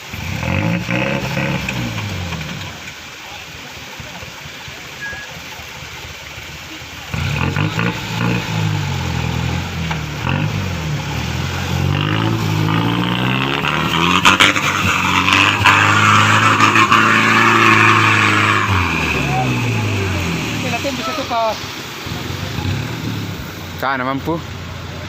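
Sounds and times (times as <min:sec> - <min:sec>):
truck engine revving: 0:00.0 - 0:03.0, 0:07.0 - 0:25.0
loud hissing rush: 0:00.0 - 0:25.0.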